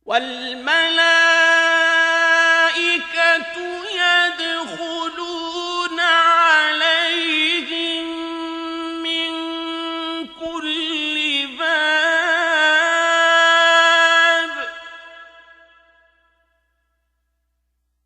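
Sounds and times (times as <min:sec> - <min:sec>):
man reciting melodically: 0:00.0 - 0:16.1.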